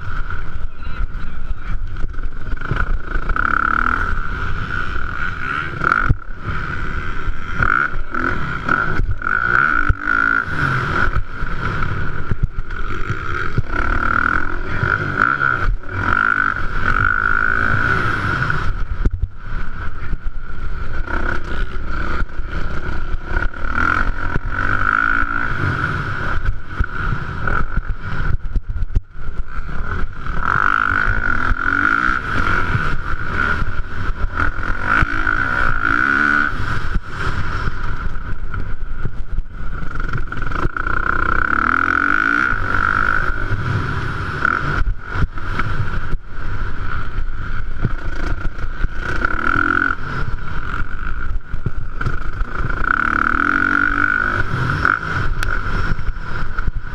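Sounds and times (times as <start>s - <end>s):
motocross bike engines revving: 0.0s - 56.9s.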